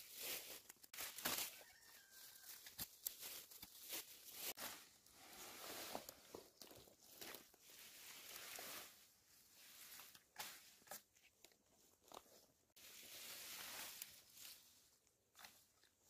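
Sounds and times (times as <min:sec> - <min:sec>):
rustling of vines and leaves: 0:00.0 - 0:16.0.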